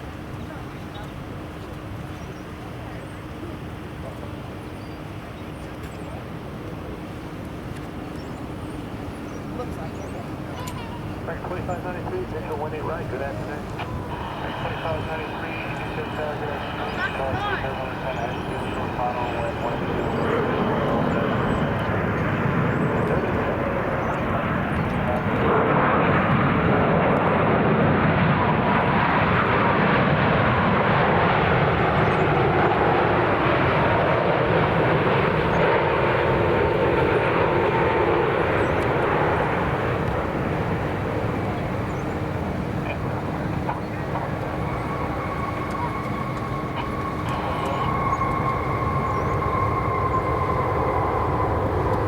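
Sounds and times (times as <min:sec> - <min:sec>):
faint high engine whine: 0:00.0 - 0:52.0
jet engine rush: 0:00.0 - 0:52.0.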